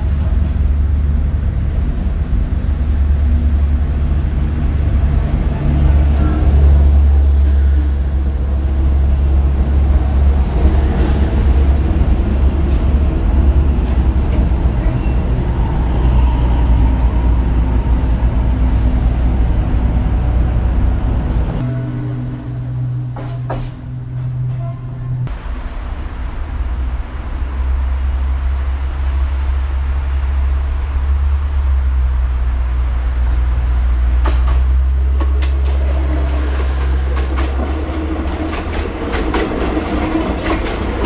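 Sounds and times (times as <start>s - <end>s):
diesel train engine rumble: 0.0s - 41.0s.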